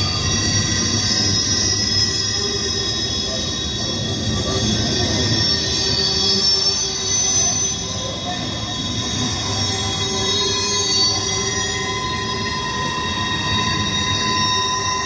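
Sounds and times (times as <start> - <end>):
train wheels squealing: 0.0 - 15.0.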